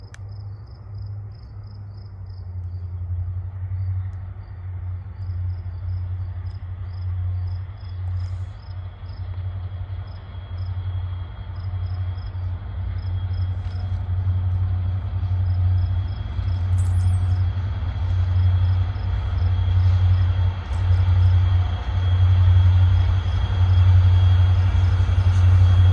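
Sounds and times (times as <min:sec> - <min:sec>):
crickets chirping: 0:00.0 - 0:25.9
diesel locomotive engines rumbling: 0:00.0 - 0:25.9.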